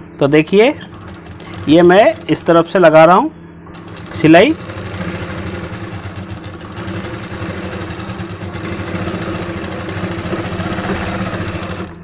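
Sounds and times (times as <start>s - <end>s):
sewing machine motor hum: 0.8s - 12.0s.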